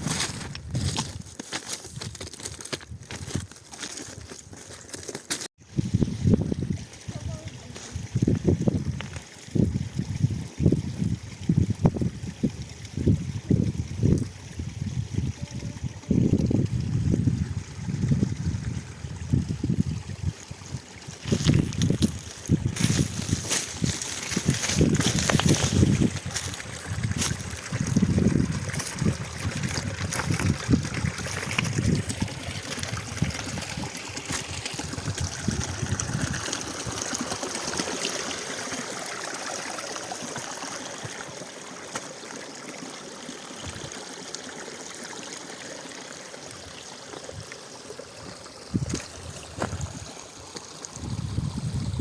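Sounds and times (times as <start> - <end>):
stream water flowing: 5.6 - 52.0
water splashes: 6.2 - 52.0.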